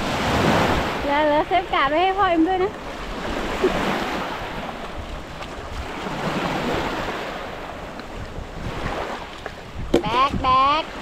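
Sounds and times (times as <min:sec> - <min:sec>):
small waves washing on shore: 0:00.0 - 0:11.0
wind buffeting microphone: 0:00.0 - 0:11.0.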